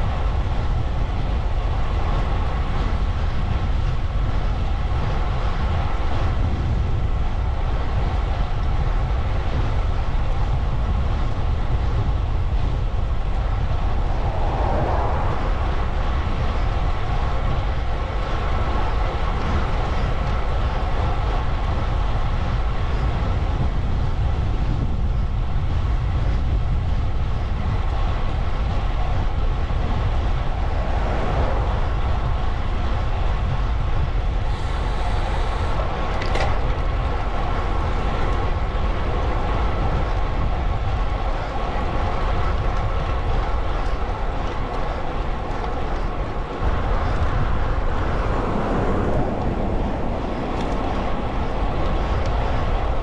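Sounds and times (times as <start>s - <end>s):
road noise: 0.0s - 53.0s
wind rumble on microphone: 0.0s - 53.0s.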